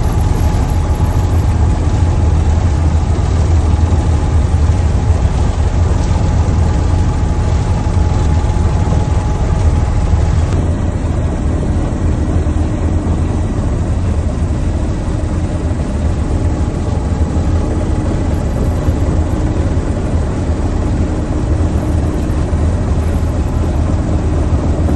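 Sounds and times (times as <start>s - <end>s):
helicopter engines and rotor: 0.0s - 24.9s.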